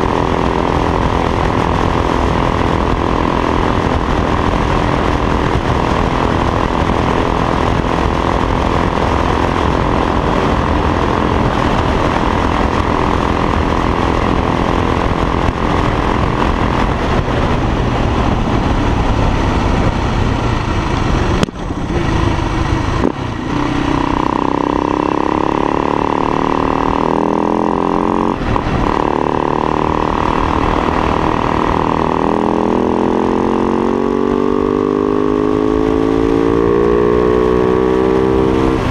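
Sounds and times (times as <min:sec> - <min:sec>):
motorcycle engine accelerating: 0:00.0 - 0:38.9
rush of wind noise: 0:00.0 - 0:38.9.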